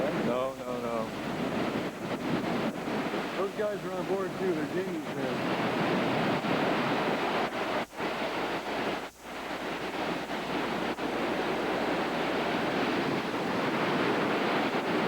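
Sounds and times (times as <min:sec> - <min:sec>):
heavy surf: 0:00.0 - 0:15.0
wind buffeting microphone: 0:00.0 - 0:15.0.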